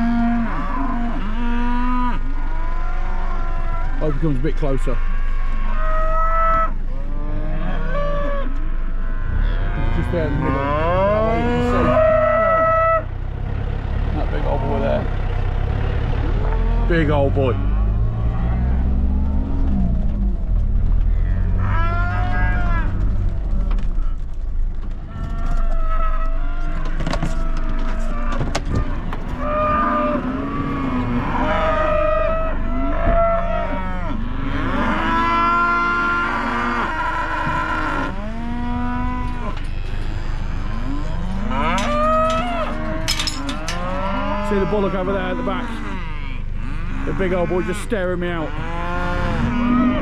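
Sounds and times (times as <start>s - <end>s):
cattle mooing: 0.0s - 24.2s, 25.1s - 50.0s.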